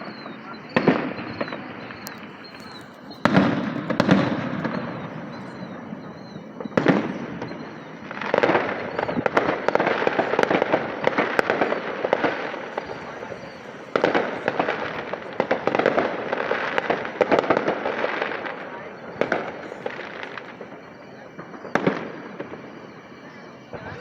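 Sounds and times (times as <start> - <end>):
firework shell bursts: 0.0 - 23.0
rapid firework crackling: 0.0 - 24.0.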